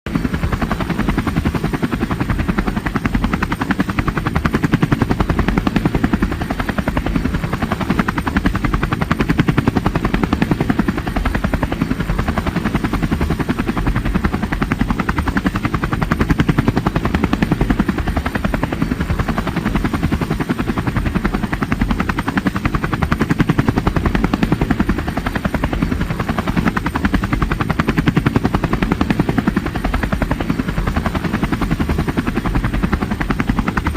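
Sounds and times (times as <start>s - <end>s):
helicopter rotor beat: 0.0s - 33.9s.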